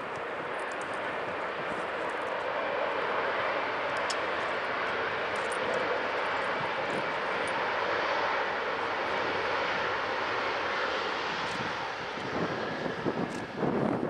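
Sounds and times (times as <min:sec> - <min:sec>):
jet engines idling: 0:00.0 - 0:14.0.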